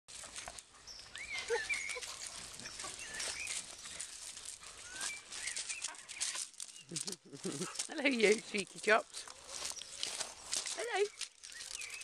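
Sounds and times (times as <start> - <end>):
paws scrabbling on gravel: 0.1 - 12.0.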